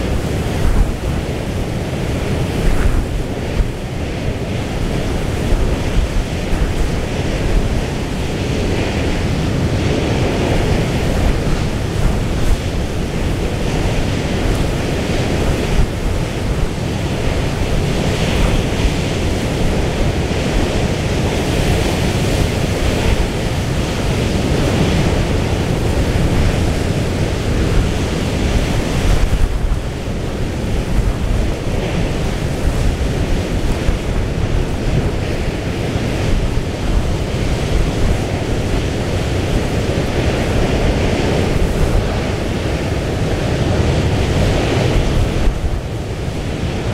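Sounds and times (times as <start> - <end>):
rough sea breaking: 0.0 - 46.9
wind buffeting microphone: 0.0 - 46.9.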